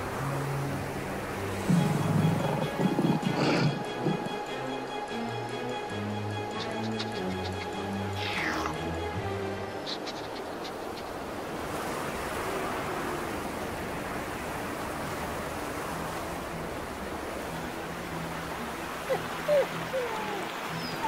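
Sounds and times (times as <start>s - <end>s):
steady outdoor rushing noise: 0.0s - 21.0s.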